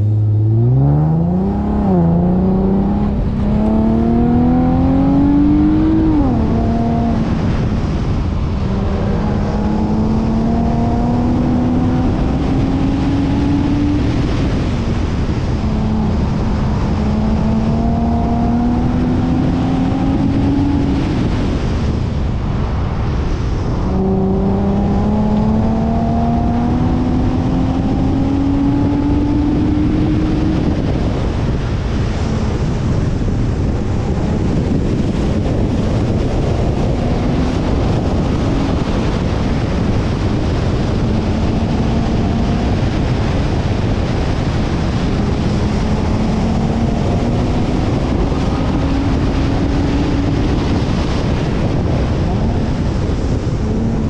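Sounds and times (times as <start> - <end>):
car engine accelerating hard: 0.0 - 54.0
road and wind noise: 0.0 - 54.0.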